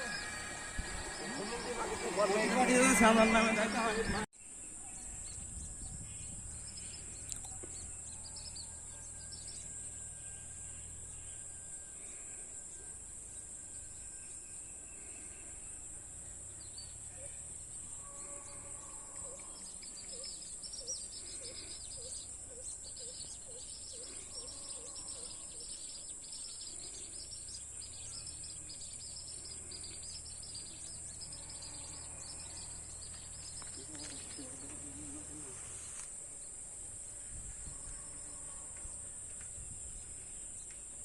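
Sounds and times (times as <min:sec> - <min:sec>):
insects high-pitched drone: 0:00.0 - 0:04.3, 0:05.0 - 0:41.0
birds chirping: 0:00.0 - 0:09.8, 0:12.8 - 0:36.6.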